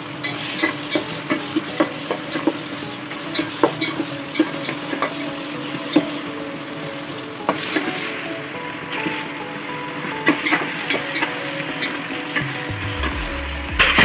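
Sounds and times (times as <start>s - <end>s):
onions sizzling: 0.0s - 14.0s
soft background music: 0.0s - 14.0s.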